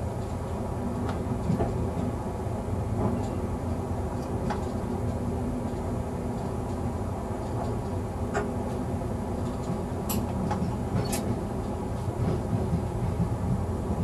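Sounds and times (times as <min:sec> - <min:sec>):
railcar engine and wheels rumbling: 0:00.0 - 0:14.0.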